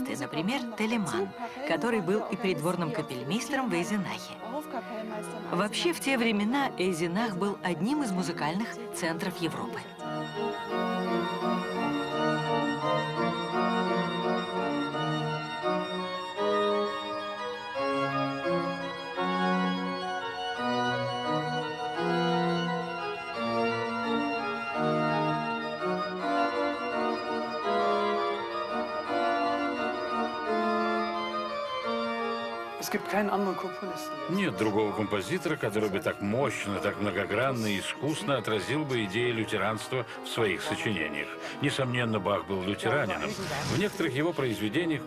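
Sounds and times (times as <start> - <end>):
pipe organ playing: 0.0 - 45.0.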